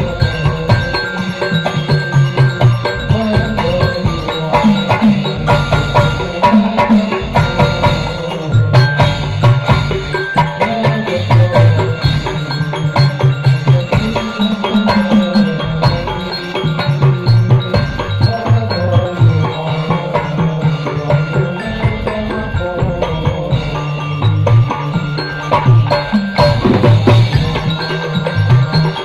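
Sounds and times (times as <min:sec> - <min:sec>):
frame drums beating fast rhythm: 0:00.0 - 0:29.0
melody line: 0:00.0 - 0:29.0.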